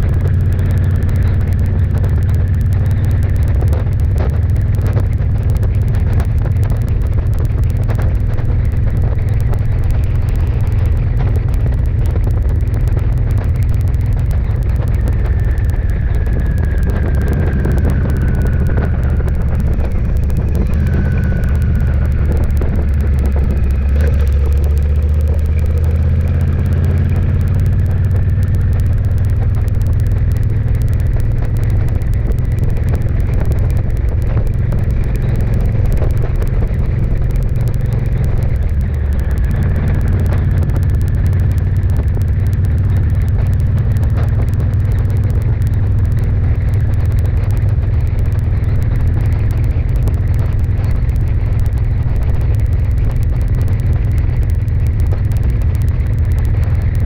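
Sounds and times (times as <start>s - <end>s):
faint high whine: 0.0s - 57.0s
vehicle rumbling along road: 0.0s - 57.0s.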